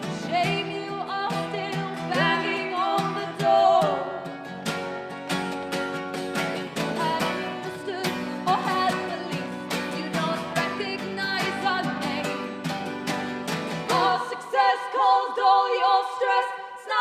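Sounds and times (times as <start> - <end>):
person singing: 0.0 - 4.4, 6.6 - 13.1, 13.7 - 17.0
guitar melody line bending: 0.0 - 14.2
guitars strummed: 0.0 - 14.5.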